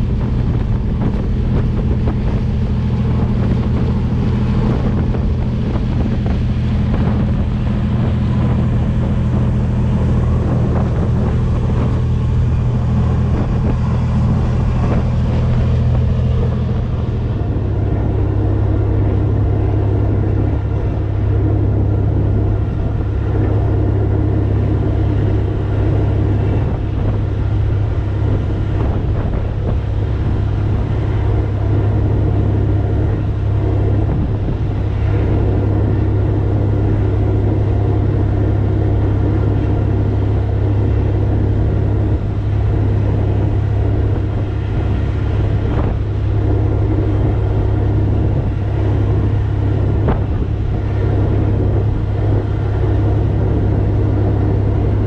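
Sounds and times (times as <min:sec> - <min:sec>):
marine diesel engine droning: 0:00.0 - 0:55.0.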